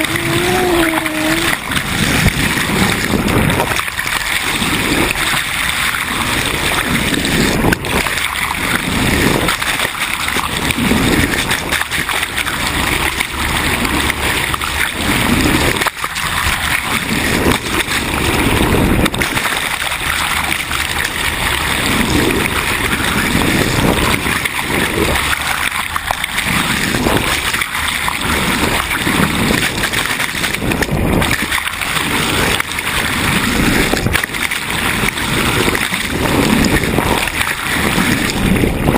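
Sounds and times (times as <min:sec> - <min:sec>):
water splashing along boat hull: 0:00.0 - 0:38.9.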